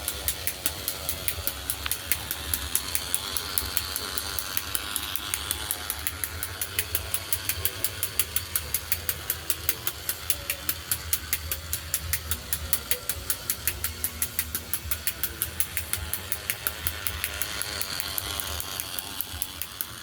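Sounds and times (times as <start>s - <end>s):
small electric motor hum: 0.0s - 20.0s
toy train click-clack: 0.0s - 20.0s.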